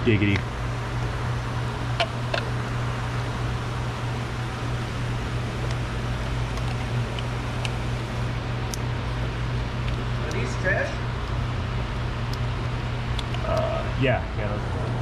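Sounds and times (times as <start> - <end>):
fan motor hum with air hiss: 0.0 - 15.0.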